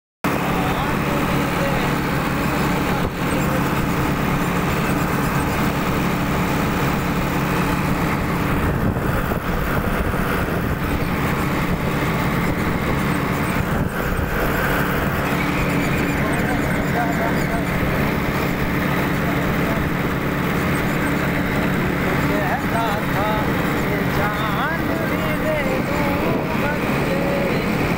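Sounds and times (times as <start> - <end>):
tractor diesel engine running: 0.2 - 27.9.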